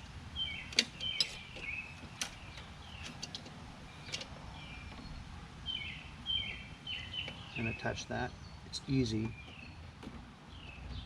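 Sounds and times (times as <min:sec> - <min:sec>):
bird chirping: 0:00.3 - 0:11.0.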